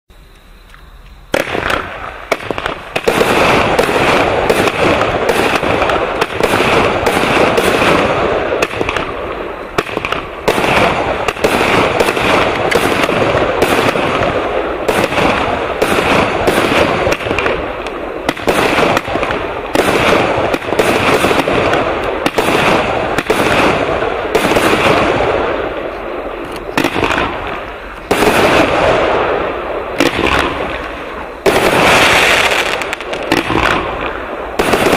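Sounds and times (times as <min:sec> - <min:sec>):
firework crackle and rumble: 0:00.1 - 0:34.9.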